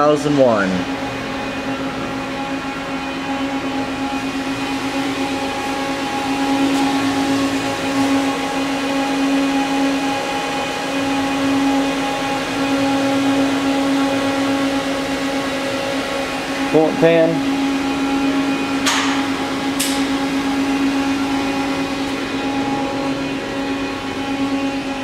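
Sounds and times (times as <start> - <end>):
machining center humming: 0.0 - 25.0.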